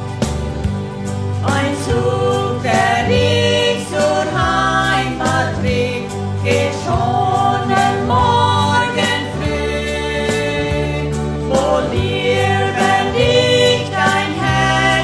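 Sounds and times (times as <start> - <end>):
instrumental backing with beat: 0.0 - 15.0
women singing: 1.4 - 15.0.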